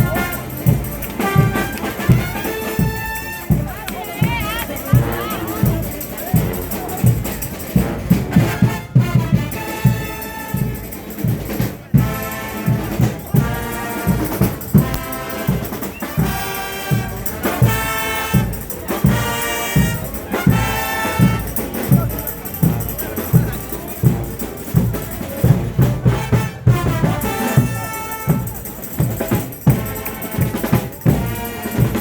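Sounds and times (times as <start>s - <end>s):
trumpets and trombones playing: 0.0s - 6.0s, 7.7s - 21.9s, 25.1s - 32.0s
fast drum beat: 0.0s - 32.0s.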